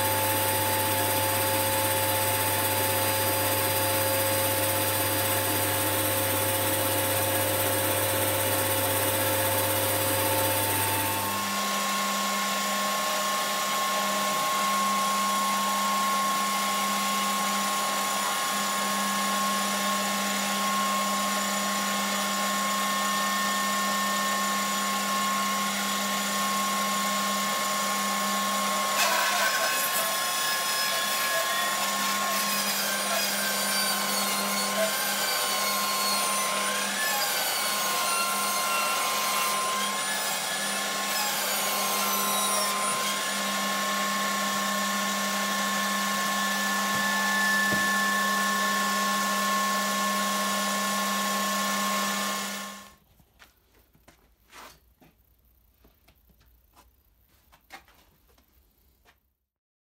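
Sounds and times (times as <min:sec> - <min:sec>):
bandsaw hum and whine: 0:00.0 - 0:52.9
saw cutting log: 0:00.0 - 0:53.0.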